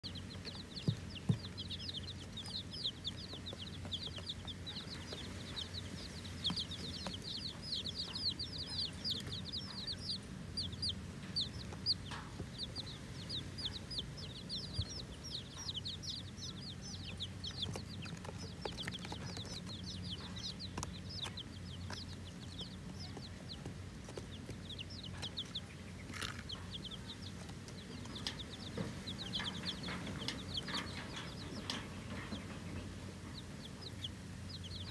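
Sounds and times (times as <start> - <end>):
chicks peeping: 0.0 - 34.9
faint low hum: 0.0 - 34.9.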